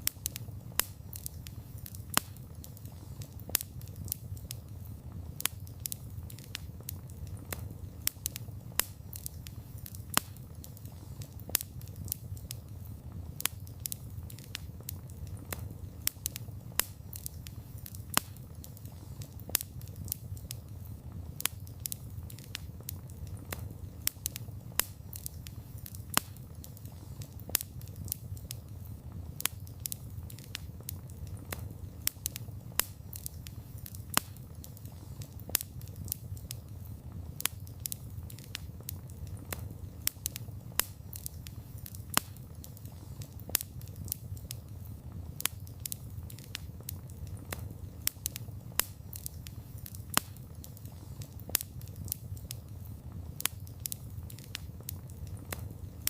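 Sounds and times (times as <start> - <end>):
campfire crackling: 0.0 - 56.0
low noise of flames: 0.0 - 56.0.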